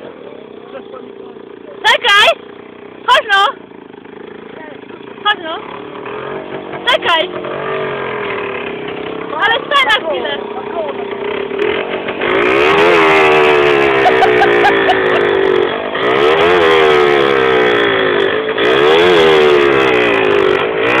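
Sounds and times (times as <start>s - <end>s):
two-stroke engine revving: 0.0s - 21.0s.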